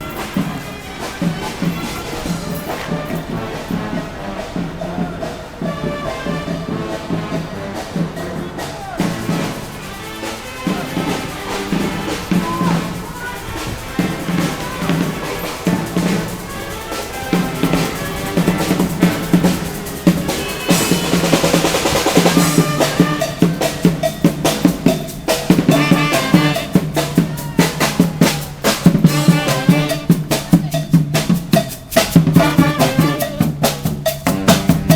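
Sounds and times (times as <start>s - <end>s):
brass band playing: 0.0s - 34.9s
steady drumming: 0.0s - 34.9s.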